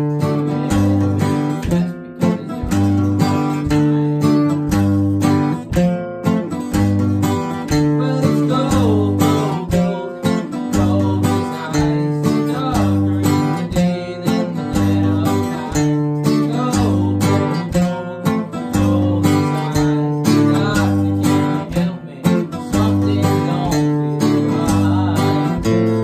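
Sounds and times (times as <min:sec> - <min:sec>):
acoustic guitars strumming: 0:00.0 - 0:26.0.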